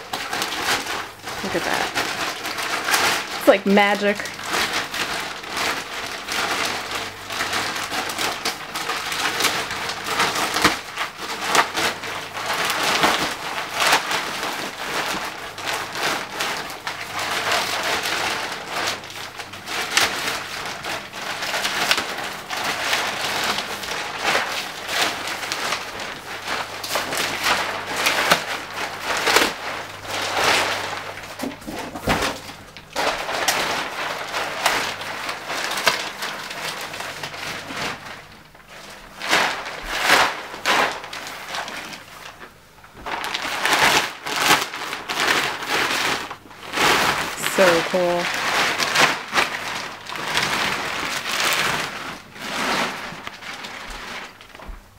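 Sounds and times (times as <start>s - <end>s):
plastic wrapping crinkling: 0.0s - 54.9s.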